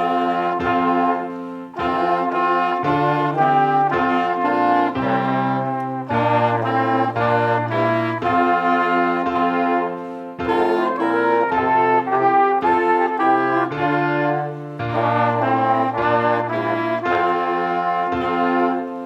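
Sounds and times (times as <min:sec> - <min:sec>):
brass instruments playing chords: 0:00.0 - 0:19.0.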